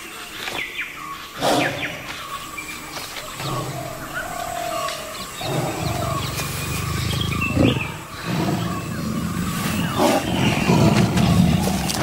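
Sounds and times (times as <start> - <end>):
birds chirping: 0.0 - 12.0
tiger growling: 1.3 - 2.4, 3.2 - 12.0.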